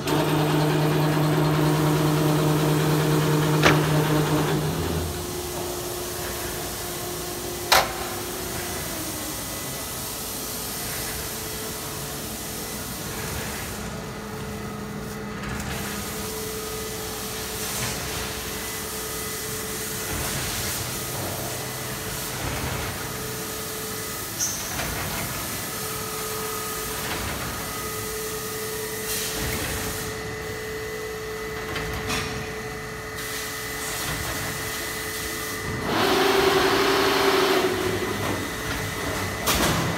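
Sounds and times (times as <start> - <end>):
machine hum with whine: 0.0 - 39.9.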